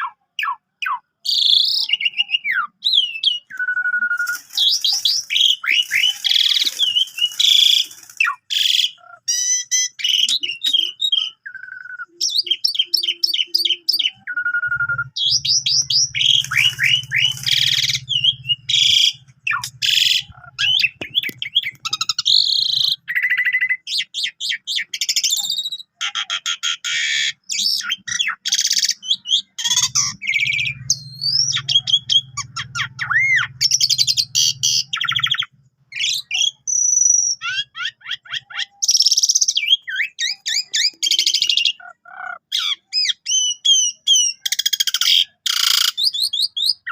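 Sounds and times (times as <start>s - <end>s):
starling singing: 0.0s - 46.9s.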